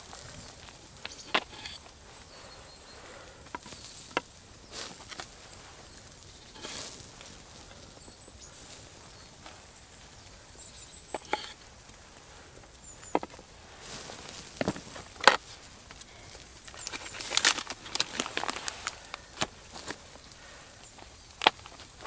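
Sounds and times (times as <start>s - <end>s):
quiet forest ambience: 0.0s - 22.0s.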